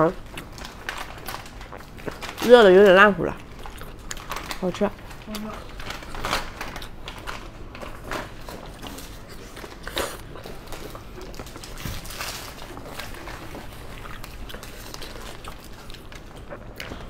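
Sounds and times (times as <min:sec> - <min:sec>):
close chewing mouth sounds: 0:00.0 - 0:17.0.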